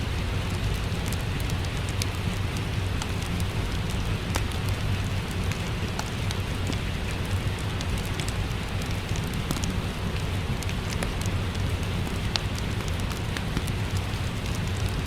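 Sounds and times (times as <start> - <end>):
steady rain falling: 0.0 - 15.0
wood fire crackling: 0.0 - 15.0.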